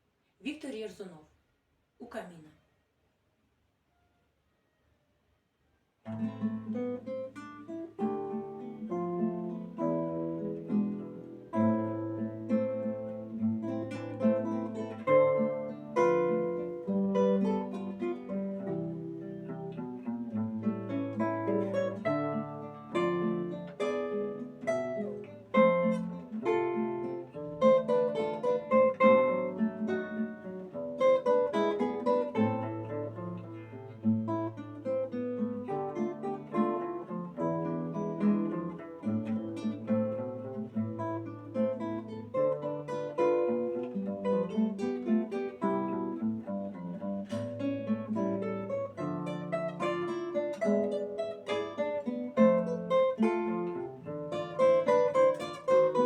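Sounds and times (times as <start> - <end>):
acoustic guitar playing: 6.0 - 56.0.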